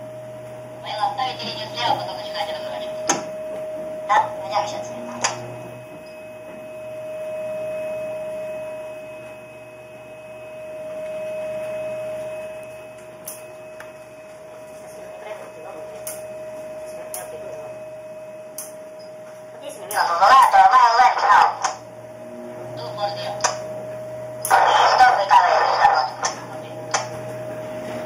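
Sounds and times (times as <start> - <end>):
ship machinery hum: 0.0 - 28.0.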